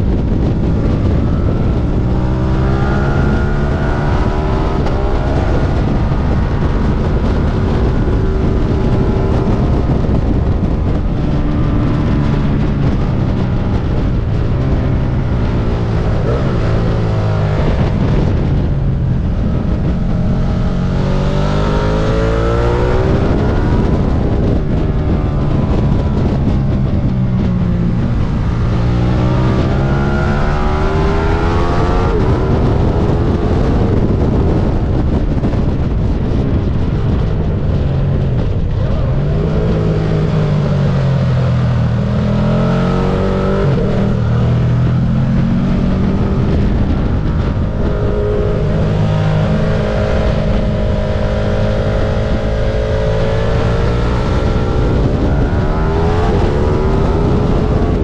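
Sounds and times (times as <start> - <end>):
motorcycle engine at speed: 0.0 - 58.0
rush of wind: 0.0 - 58.0.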